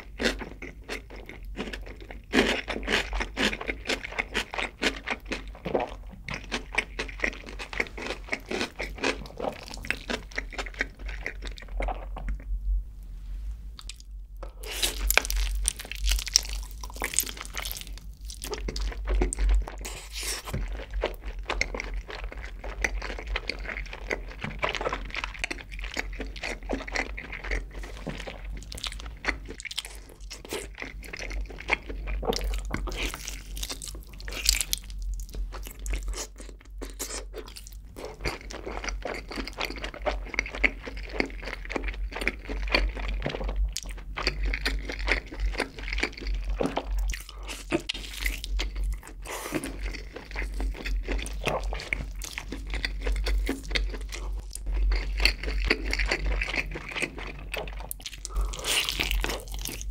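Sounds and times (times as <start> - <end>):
chewing and biting chicken: 0.0 - 12.5, 13.8 - 59.9.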